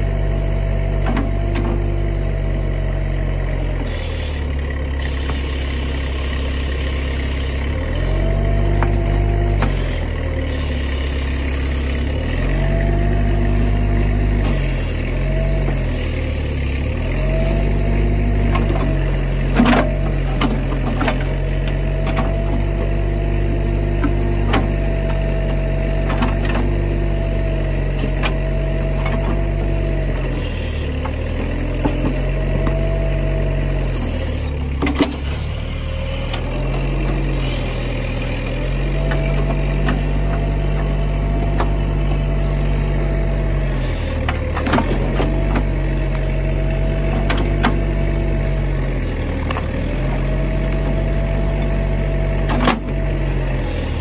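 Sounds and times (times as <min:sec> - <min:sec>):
engine whine: 0:00.0 - 0:54.0
excavator diesel engine running: 0:00.0 - 0:54.0.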